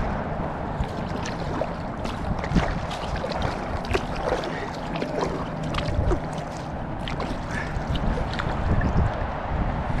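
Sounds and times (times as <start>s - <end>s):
steady low rumble: 0.0s - 10.0s
paddle splashes and drips: 0.7s - 9.3s.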